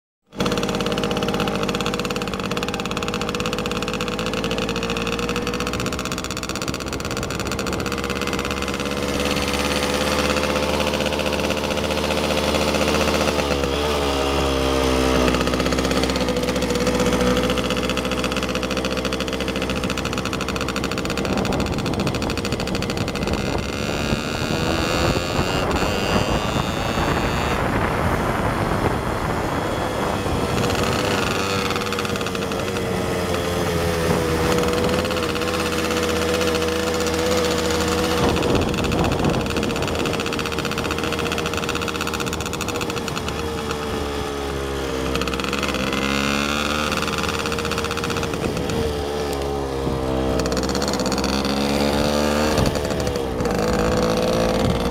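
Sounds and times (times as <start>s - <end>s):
rougher noisier sound: 0.3s - 54.9s
vehicle engine running: 0.3s - 54.9s.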